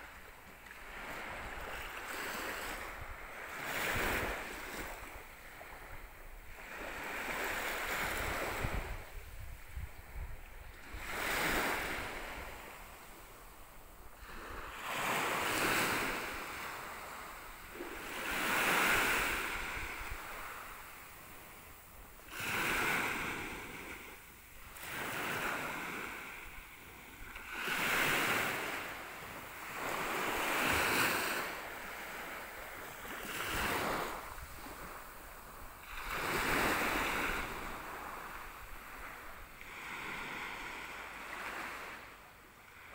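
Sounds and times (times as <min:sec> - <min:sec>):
small waves washing onto sand: 0:00.0 - 0:42.9.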